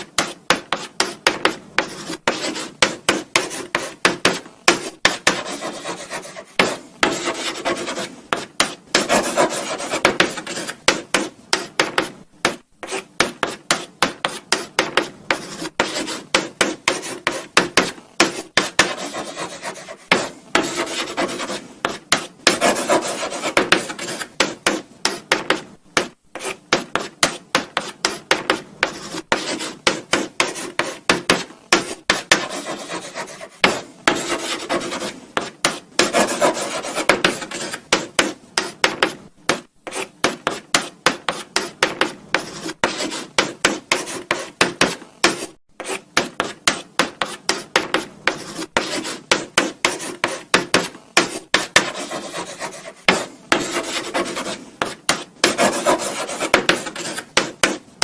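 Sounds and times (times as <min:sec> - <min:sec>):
chalk scratching on blackboard: 0:00.0 - 0:57.8.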